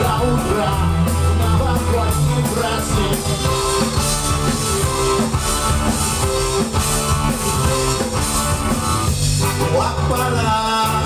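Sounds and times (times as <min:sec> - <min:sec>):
drum kit and bass beat: 0:00.0 - 0:11.0
electric guitar: 0:00.0 - 0:11.0.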